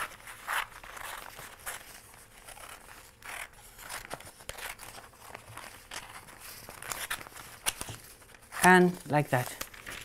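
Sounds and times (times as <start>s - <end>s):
scissors cutting newspaper: 0.0s - 10.0s.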